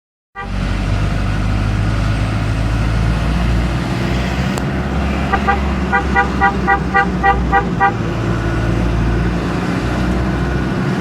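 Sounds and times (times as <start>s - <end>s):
heavy machinery engine humming: 0.4s - 11.0s.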